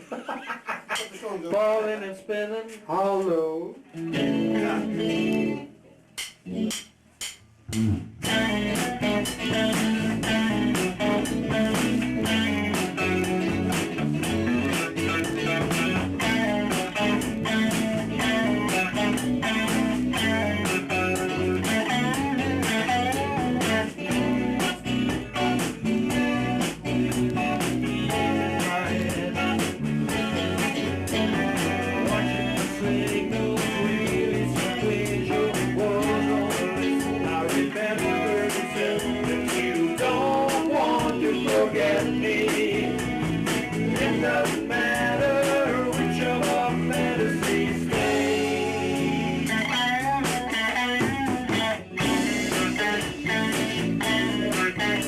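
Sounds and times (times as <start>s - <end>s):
electric guitar: 3.8s - 6.8s, 7.7s - 55.0s
rock band playing bluesy music: 3.9s - 5.6s, 7.8s - 55.0s.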